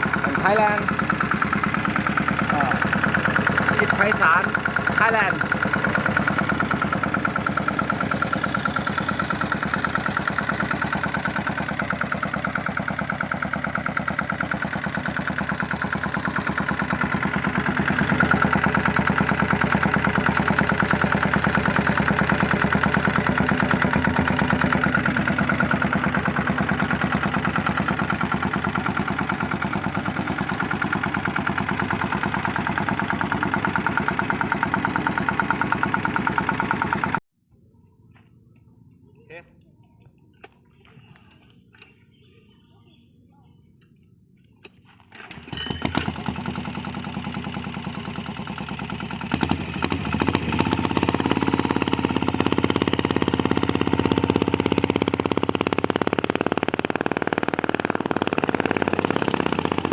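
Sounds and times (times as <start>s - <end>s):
small diesel engine chugging: 0.0s - 37.2s, 38.1s - 59.9s.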